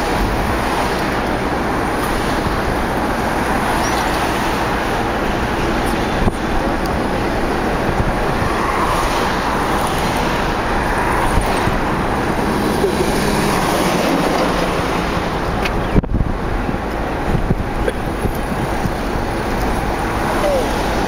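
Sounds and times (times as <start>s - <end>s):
car driving: 0.0s - 21.0s.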